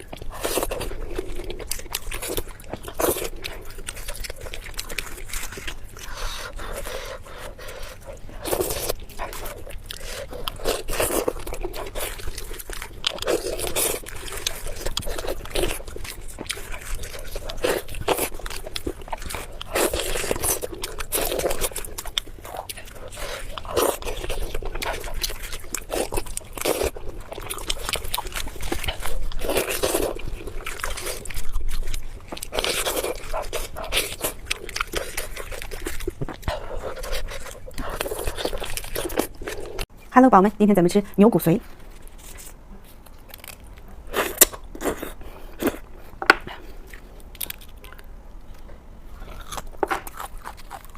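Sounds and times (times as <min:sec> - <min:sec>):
person chewing and crunching food: 0:00.0 - 0:40.0, 0:41.6 - 0:50.9.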